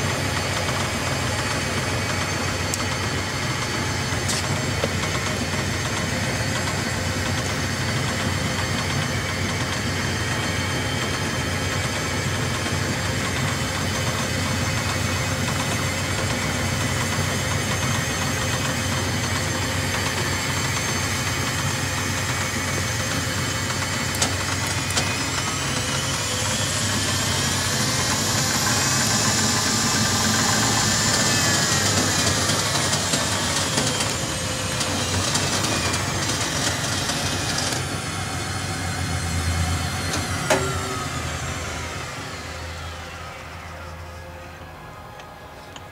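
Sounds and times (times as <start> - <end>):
lathe humming and whining: 0.0 - 45.9.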